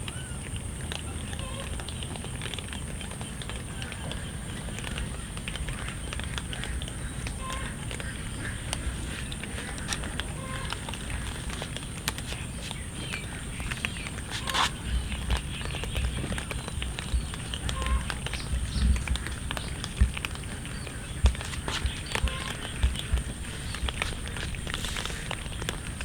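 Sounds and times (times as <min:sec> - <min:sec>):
cats chewing food crunching: 0:00.0 - 0:26.0.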